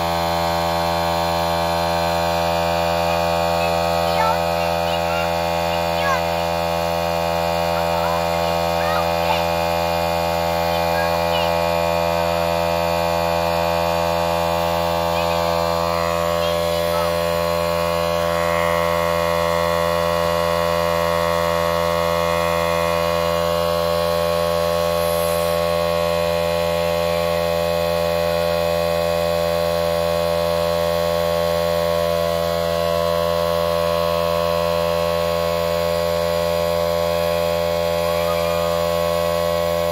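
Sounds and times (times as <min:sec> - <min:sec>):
steady hum with overtones: 0:00.0 - 0:39.9.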